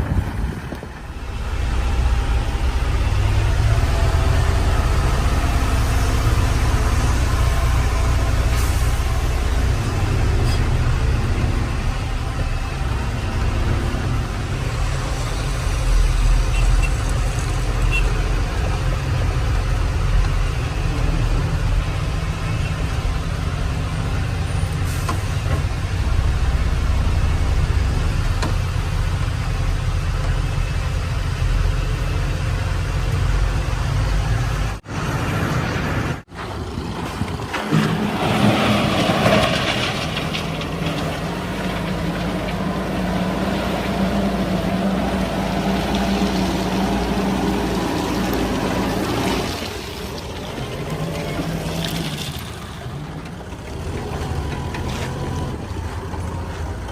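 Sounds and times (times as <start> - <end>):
heavy diesel engine rumbling: 0.0 - 56.9.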